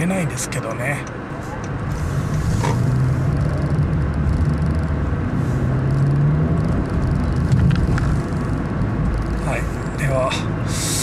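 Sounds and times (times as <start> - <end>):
car engine and exhaust drone: 0.0 - 11.0
road rumble: 0.0 - 11.0.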